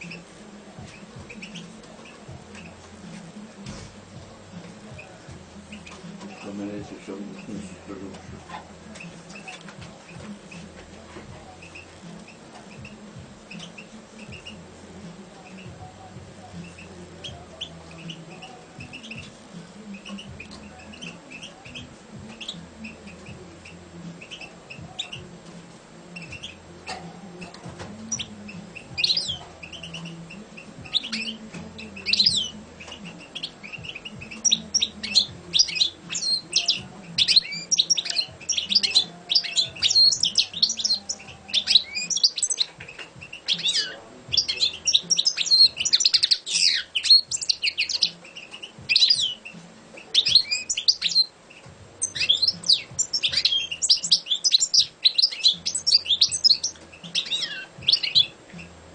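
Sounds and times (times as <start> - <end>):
goldfinch singing: 0.0 - 58.9.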